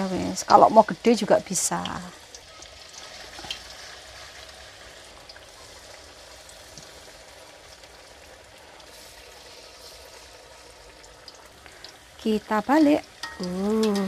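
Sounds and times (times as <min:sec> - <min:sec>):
batter sizzling in hot oil: 0:00.0 - 0:14.0.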